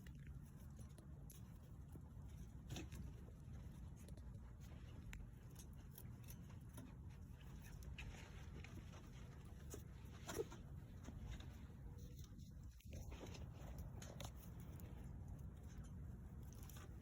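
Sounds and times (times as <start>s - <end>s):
faint ticks and rustles: 0.0s - 17.0s
low background rumble: 0.0s - 17.0s.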